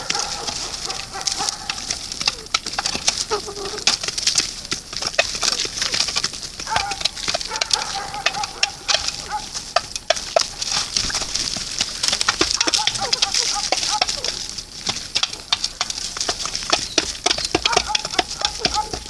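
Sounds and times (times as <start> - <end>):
birds chirping: 0.0 - 19.0
sharp clicks: 0.0 - 19.0.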